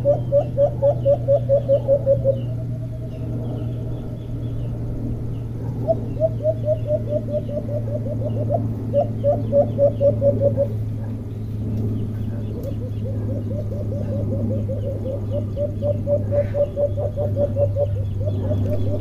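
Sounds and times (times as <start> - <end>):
dove calling low notes: 0.0 - 19.0
small birds chirping: 0.0 - 19.0.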